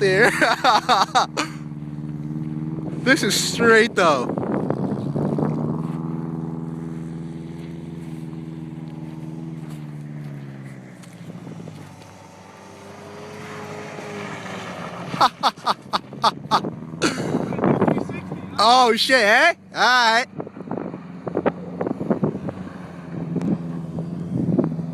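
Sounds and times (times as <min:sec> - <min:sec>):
car engine running: 0:00.0 - 0:24.9.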